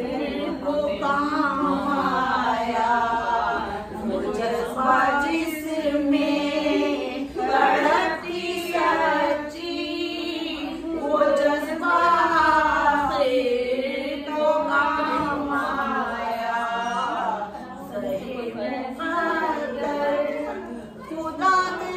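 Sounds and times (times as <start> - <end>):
women singing together: 0.0 - 21.9.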